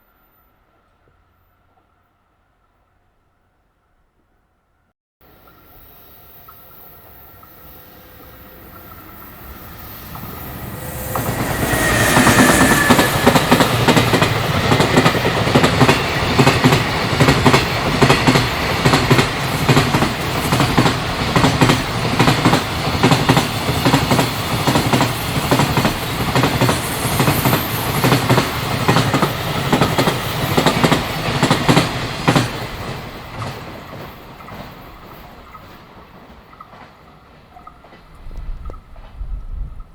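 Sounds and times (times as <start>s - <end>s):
freight train passing: 5.2s - 39.9s.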